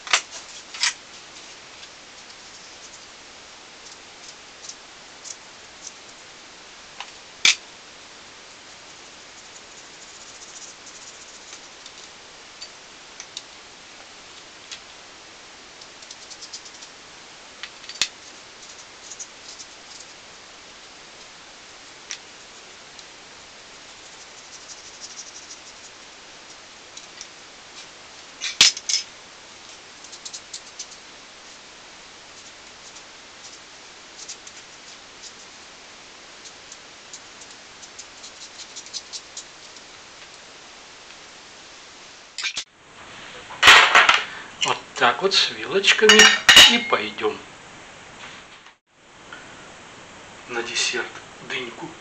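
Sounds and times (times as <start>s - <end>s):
steady hiss: 0.0s - 52.0s.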